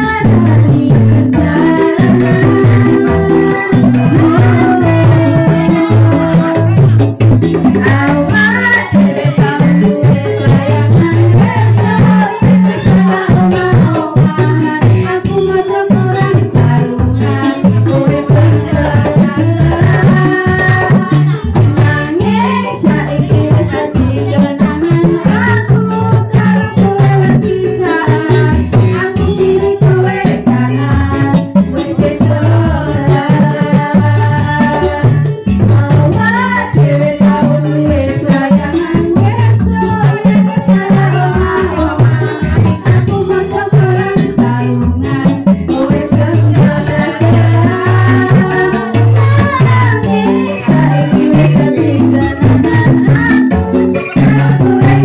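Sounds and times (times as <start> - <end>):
keyboard pop music: 0.0 - 55.0
woman singing: 0.0 - 55.0.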